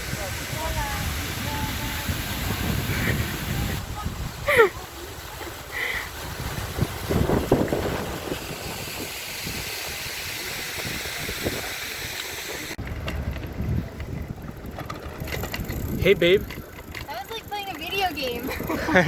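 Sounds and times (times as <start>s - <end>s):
low uneven bicycle rumble: 0.0s - 19.0s
wind buffeting microphone: 0.0s - 19.0s.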